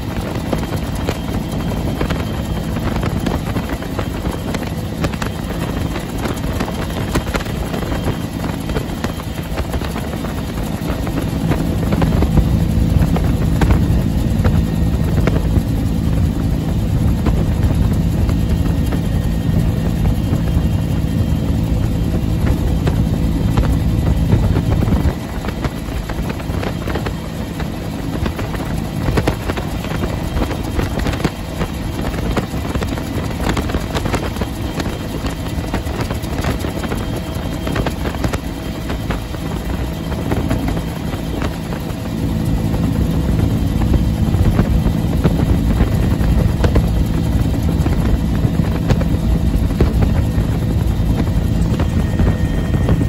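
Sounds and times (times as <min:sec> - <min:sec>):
helicopter engine: 0:00.0 - 0:53.0
helicopter rotor beating: 0:00.0 - 0:53.0
wind noise: 0:00.0 - 0:53.0.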